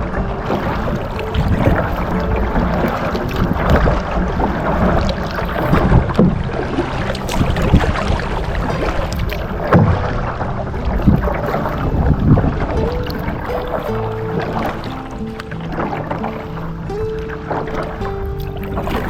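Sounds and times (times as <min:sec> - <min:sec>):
paddle strokes splashing: 0:00.0 - 0:19.0
water sloshing against hull: 0:00.0 - 0:19.0
wind rumble on microphone: 0:00.0 - 0:19.0.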